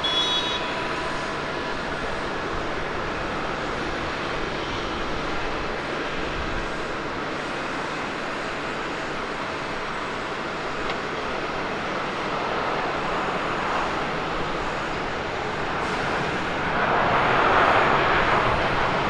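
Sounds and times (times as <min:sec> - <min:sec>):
jet engine rushing: 0:00.0 - 0:19.0.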